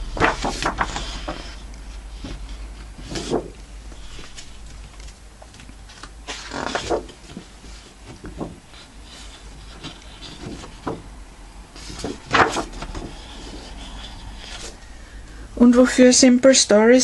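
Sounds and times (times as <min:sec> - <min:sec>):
paper sheets rustling: 0:00.0 - 0:11.1, 0:11.7 - 0:14.9.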